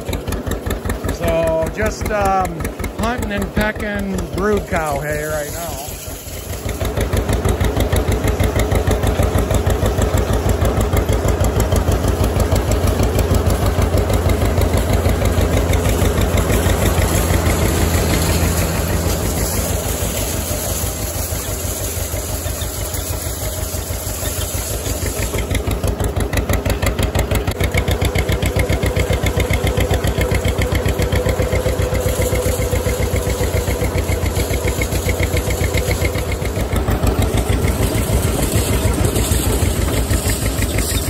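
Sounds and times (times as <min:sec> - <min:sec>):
round baler baling hay: 0:00.0 - 0:41.0
tractor engine running: 0:00.0 - 0:41.0.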